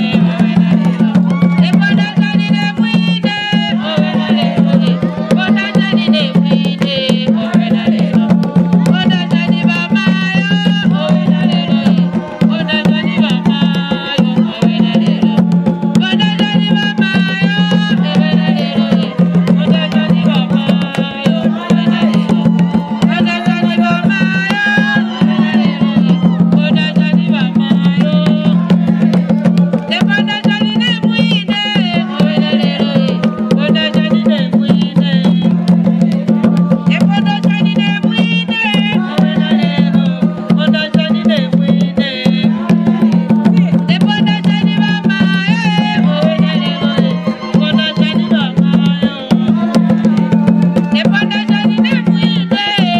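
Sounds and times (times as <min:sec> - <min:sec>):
hand drumming on wooden drums: 0:00.0 - 0:52.9
voices singing: 0:00.0 - 0:52.9.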